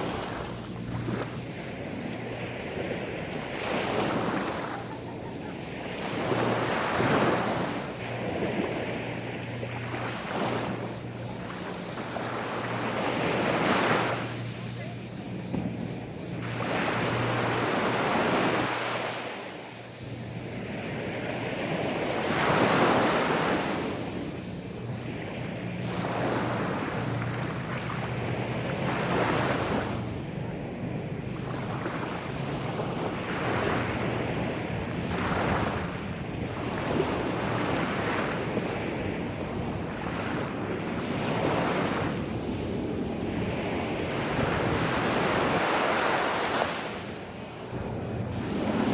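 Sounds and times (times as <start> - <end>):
faint steady hum: 0.0 - 48.9
sea waves washing onto beach: 0.0 - 48.9.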